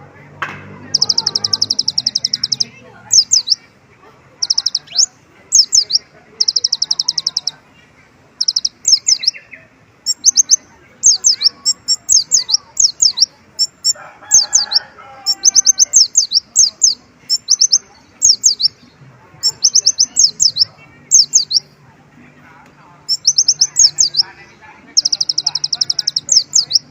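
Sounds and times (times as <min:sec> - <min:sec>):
bird singing high slurred notes: 0:00.8 - 0:03.7, 0:04.4 - 0:07.6, 0:08.4 - 0:21.7, 0:23.0 - 0:26.9.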